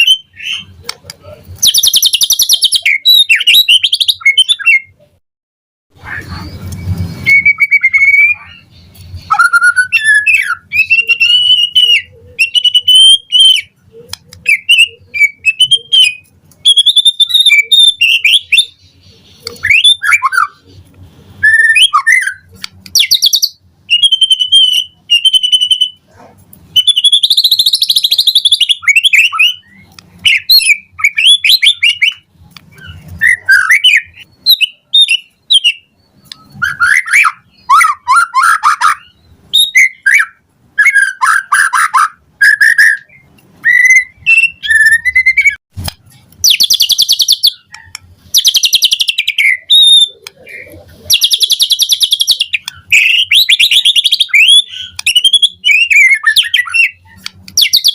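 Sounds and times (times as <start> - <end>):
bird singing whistled phrases: 1.6 - 5.0, 6.1 - 13.8, 14.4 - 18.8, 19.6 - 20.6, 21.4 - 26.0, 26.7 - 45.6, 46.4 - 57.9.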